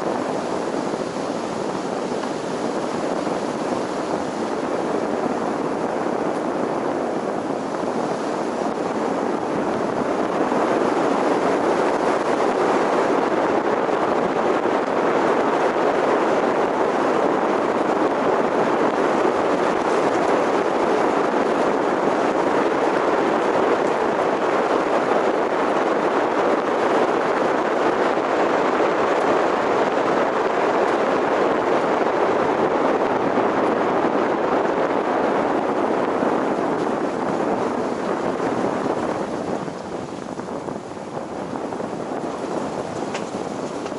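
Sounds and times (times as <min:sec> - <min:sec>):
road and wind noise from car: 0:00.0 - 0:43.9.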